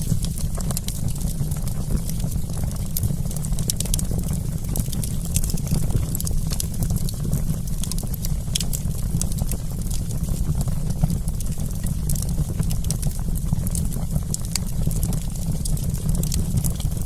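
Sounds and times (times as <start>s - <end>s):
campfire crackling: 0.0s - 17.0s
fire pops and snaps: 0.0s - 17.0s.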